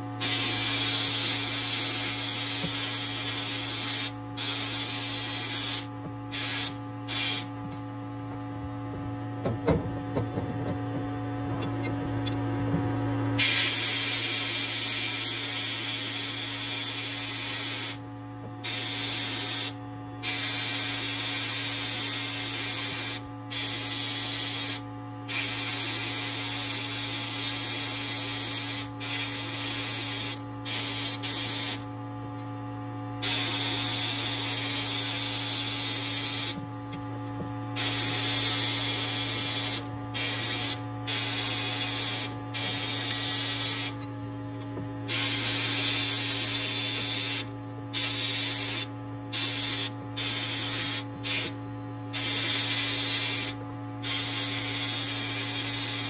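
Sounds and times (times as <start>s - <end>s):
abrasive blast gun hissing: 0.2s - 7.5s, 13.4s - 18.0s, 18.6s - 31.8s, 33.2s - 36.6s, 37.8s - 44.0s, 45.1s - 56.0s.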